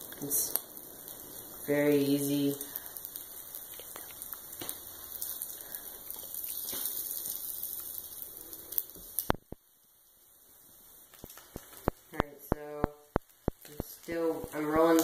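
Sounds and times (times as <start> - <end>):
oil sizzling in a skillet: 0.0 - 15.0.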